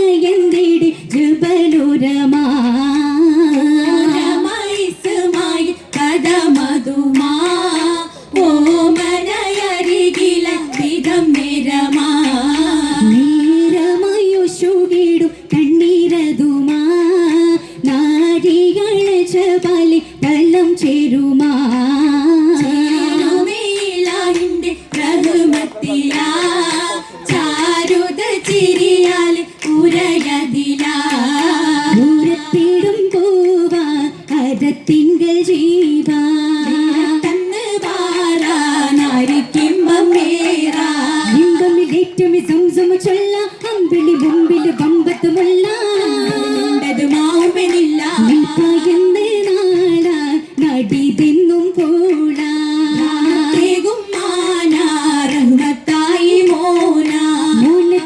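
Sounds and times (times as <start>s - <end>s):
sharp hand claps: 0.0s - 58.0s
voices singing: 0.0s - 58.0s.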